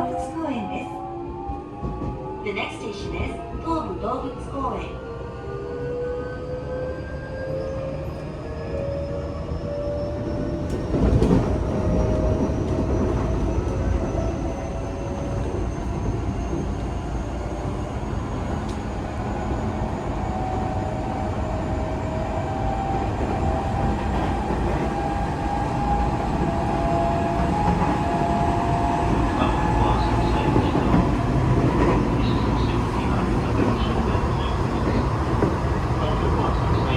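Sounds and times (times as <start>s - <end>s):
rumble of wheels on track: 6.3s - 36.9s.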